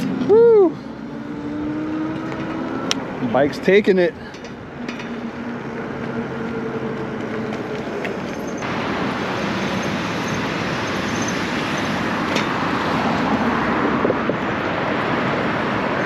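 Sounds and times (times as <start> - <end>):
wind and tyre noise: 0.0 - 16.0.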